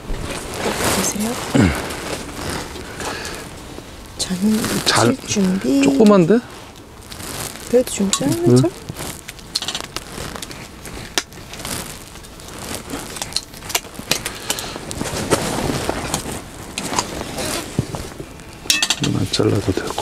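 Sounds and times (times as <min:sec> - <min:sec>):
rustling: 0:00.0 - 0:20.0.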